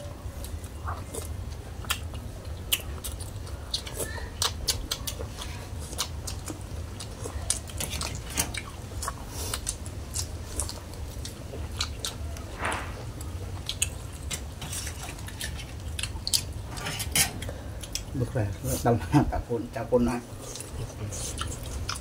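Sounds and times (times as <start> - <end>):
chewing: 0.0 - 18.8, 20.3 - 22.0
steady low hum: 0.0 - 22.0.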